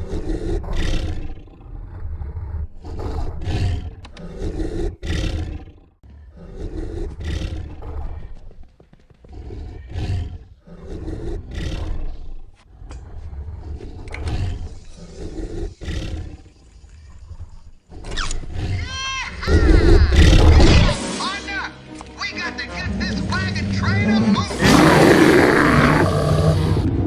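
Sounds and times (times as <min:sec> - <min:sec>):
deep rasping animal roar: 0:00.0 - 0:08.4, 0:09.3 - 0:16.6, 0:17.9 - 0:21.0, 0:23.6 - 0:27.0.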